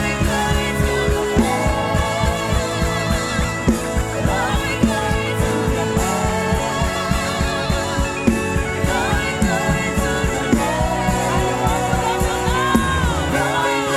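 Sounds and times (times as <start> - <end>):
gospel band playing: 0.0 - 13.9
steady drum beat: 0.0 - 13.9
sung vocals: 0.0 - 13.9.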